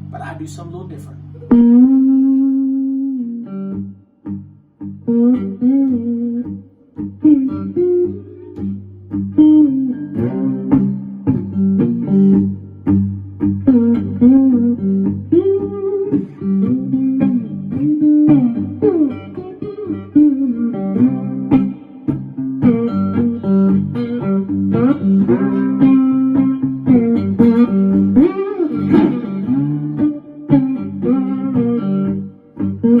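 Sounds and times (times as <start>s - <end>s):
guitar drone and picked melody: 0.0s - 33.0s.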